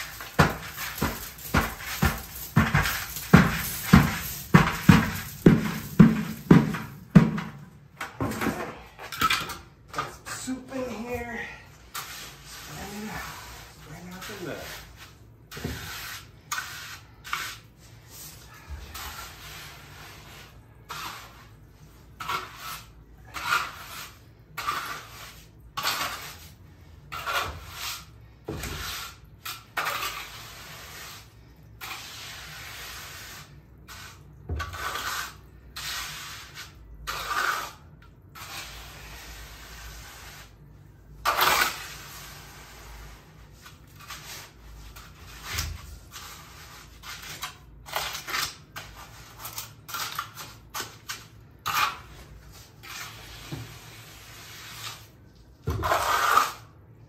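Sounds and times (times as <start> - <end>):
trowel scraping wet concrete: 0.0 - 7.6, 8.5 - 56.8.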